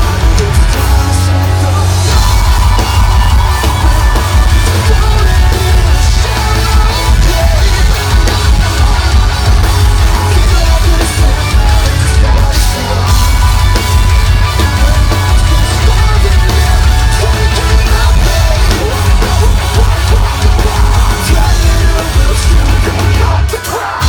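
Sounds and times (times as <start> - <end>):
harsh yelled vocals: 0.0 - 24.0
live metal band playing: 0.0 - 24.0.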